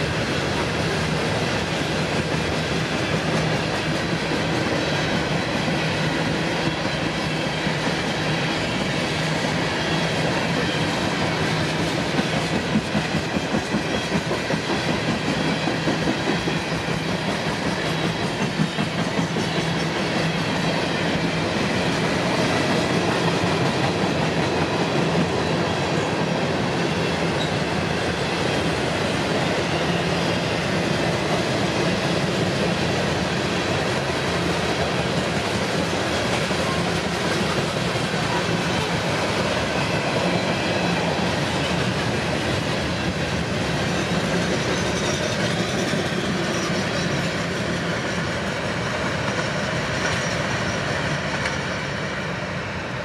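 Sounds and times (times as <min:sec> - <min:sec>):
steel wheels rumbling on rail: 0:00.0 - 0:53.0
uneven clacks of train wheels: 0:00.0 - 0:53.0.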